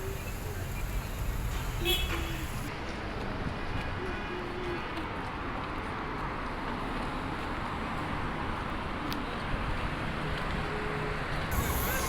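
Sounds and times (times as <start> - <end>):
slow city traffic rumble: 0.0 - 12.0.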